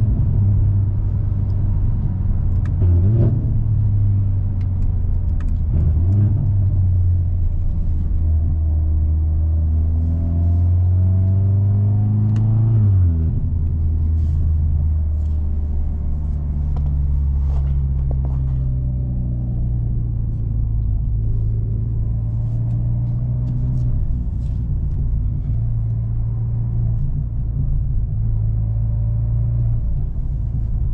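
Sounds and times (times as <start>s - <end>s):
car exhaust drone while driving: 0.0s - 30.9s.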